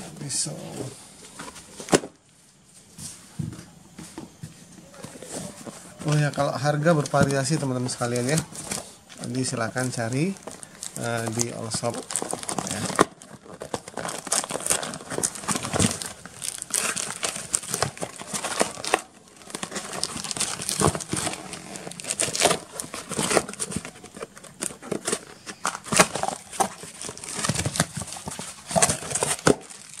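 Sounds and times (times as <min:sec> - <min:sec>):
bubble wrap and plastic crackling: 0:04.8 - 0:30.0
packing tape tearing: 0:05.4 - 0:30.0.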